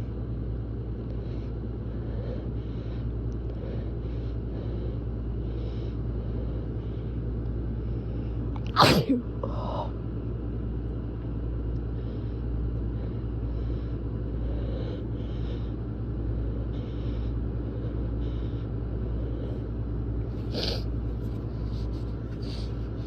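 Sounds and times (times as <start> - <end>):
low rumbling drone: 0.0 - 23.0.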